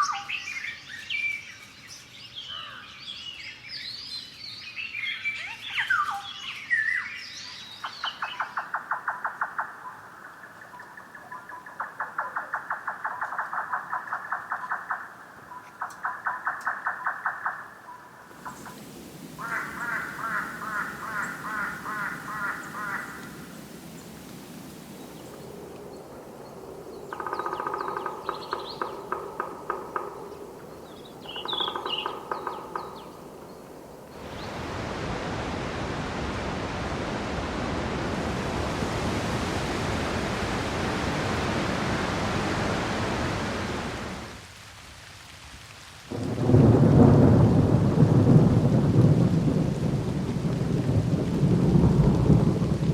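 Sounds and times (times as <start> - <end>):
rushing water: 5.2 - 52.9.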